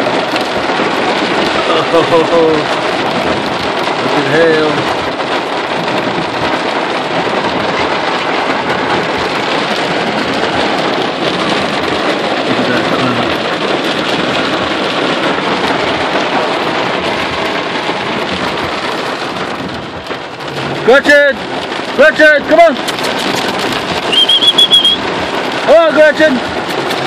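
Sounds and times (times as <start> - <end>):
rain and hail on vehicle roof: 0.0 - 27.0.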